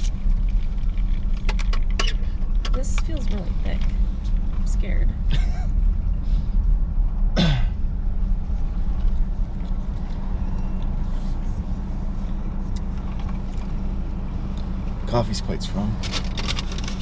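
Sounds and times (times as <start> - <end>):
car interior road drone: 0.0 - 17.0.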